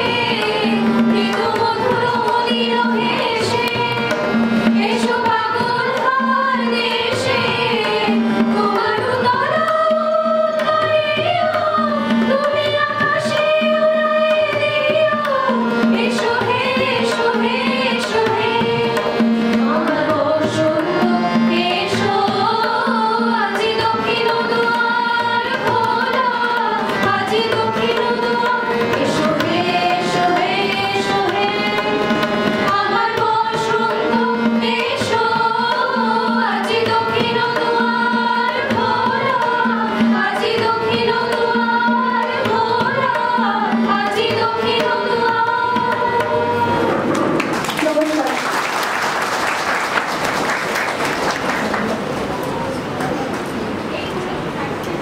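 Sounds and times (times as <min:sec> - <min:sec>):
women singing in unison: 0:00.0 - 0:46.9
harmonium: 0:00.0 - 0:48.3
tabla strokes: 0:00.0 - 0:48.3.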